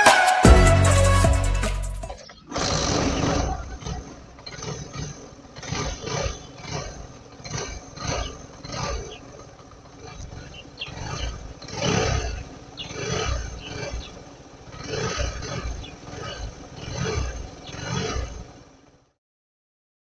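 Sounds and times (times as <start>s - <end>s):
motorcycle engine revving: 0.4s - 19.2s.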